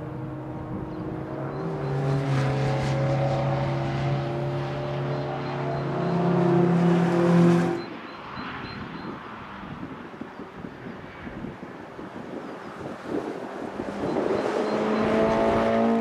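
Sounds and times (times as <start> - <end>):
racing car engines: 0.0 - 16.0.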